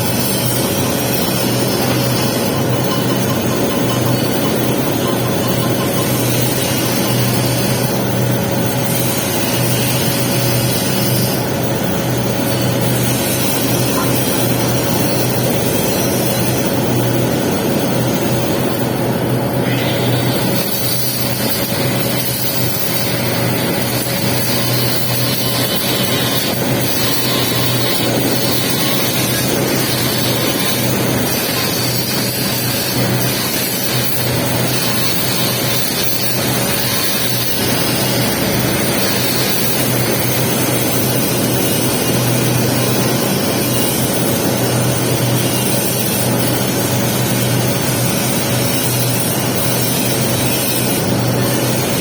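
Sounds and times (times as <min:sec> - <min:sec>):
welding arc hissing and crackling: 0:00.0 - 0:52.0.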